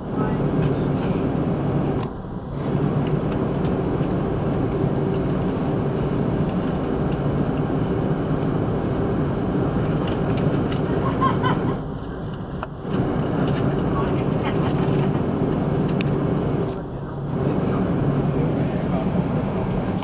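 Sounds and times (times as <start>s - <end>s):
airliner engines droning: 0.0s - 20.0s.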